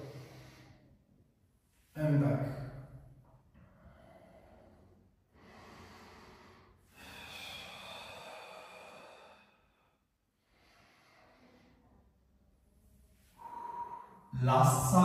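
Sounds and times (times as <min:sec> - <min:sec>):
man breathing deeply: 0:00.0 - 0:01.2, 0:03.6 - 0:14.4.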